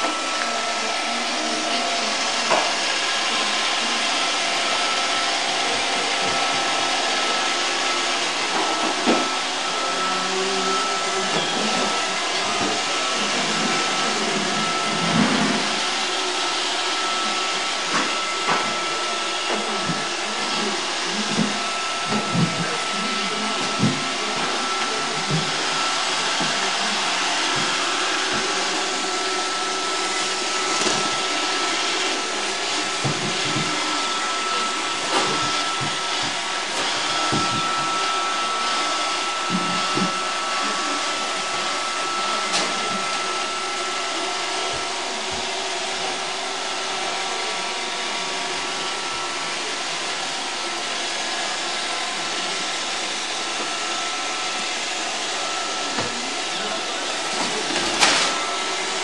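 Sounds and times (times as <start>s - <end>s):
robot vacuum whirring: 0.0s - 59.0s.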